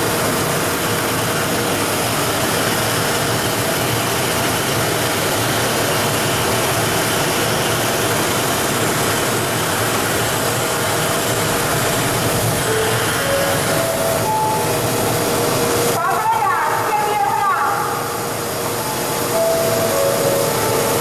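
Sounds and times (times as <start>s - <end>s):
faint machine hum: 0.0s - 21.0s
recycling machine running: 0.0s - 21.0s.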